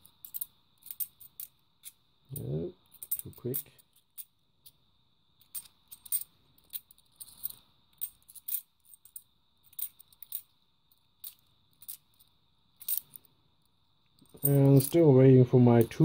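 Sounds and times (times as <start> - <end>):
coins clicking together: 0.0 - 4.8, 5.4 - 13.3, 14.2 - 15.1.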